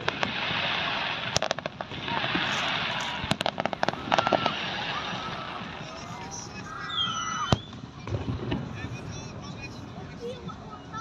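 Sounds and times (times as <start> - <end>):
crackling hiss: 0.0 - 10.2
fireworks bangs: 0.0 - 10.8.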